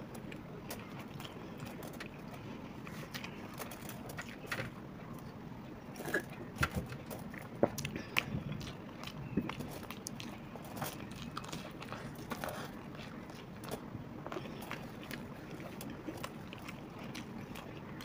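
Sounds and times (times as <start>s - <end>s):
people chewing: 0.0s - 18.0s.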